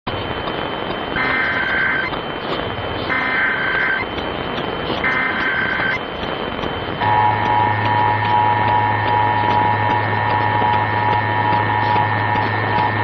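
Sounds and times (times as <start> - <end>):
radio static hiss: 0.1 - 13.0
warbling digital data tones: 0.1 - 13.0.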